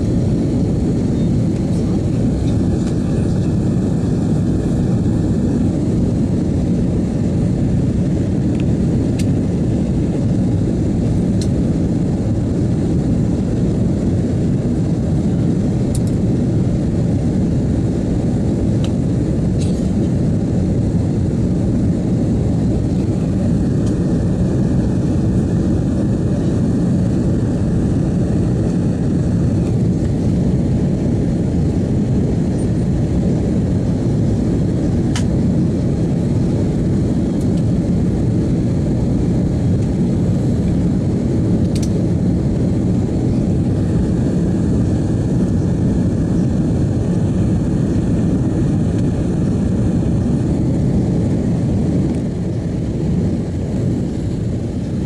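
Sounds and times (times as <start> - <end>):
airliner engines roaring in cabin: 0.0 - 55.0.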